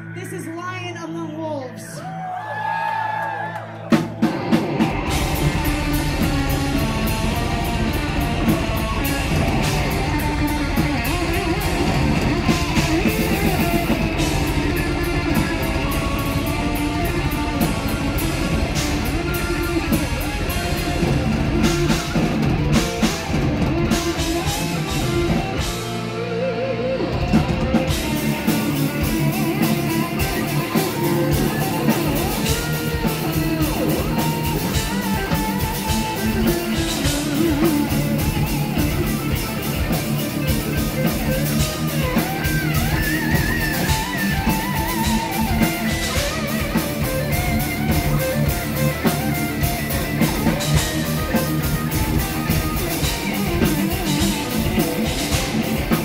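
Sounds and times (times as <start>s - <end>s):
bass guitar: 0.0s - 56.0s
drum kit: 3.6s - 56.0s
distorted rhythm guitar: 3.8s - 56.0s
lead electric guitar melody: 3.8s - 56.0s.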